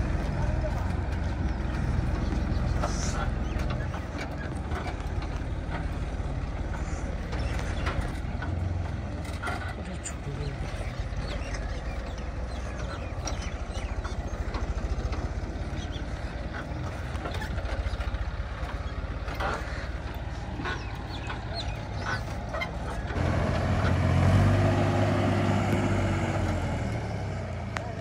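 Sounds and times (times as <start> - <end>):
diesel engine throbbing: 0.0 - 28.0.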